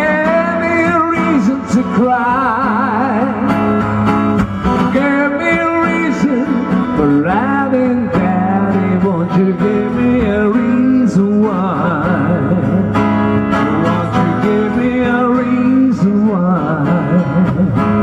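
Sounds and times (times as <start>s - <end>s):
man singing a ballad: 0.0s - 3.7s, 4.8s - 18.0s
acoustic guitar: 0.0s - 18.0s.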